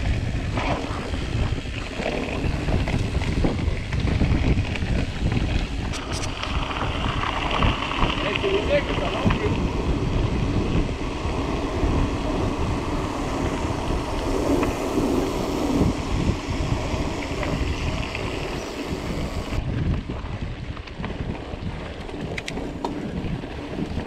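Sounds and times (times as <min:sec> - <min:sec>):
bike tyres rolling on gravel: 0:00.0 - 0:24.0
wind buffeting microphone: 0:00.0 - 0:24.0.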